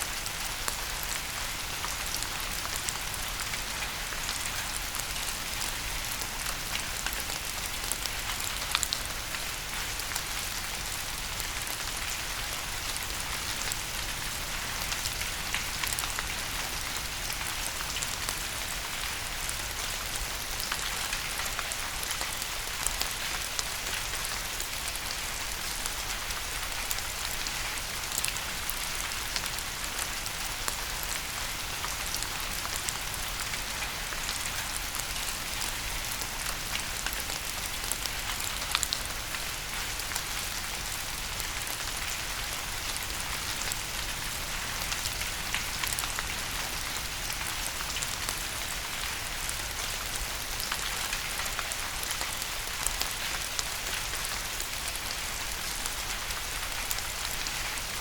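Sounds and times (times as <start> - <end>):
rain drops pattering on hard surface: 0.0 - 58.0.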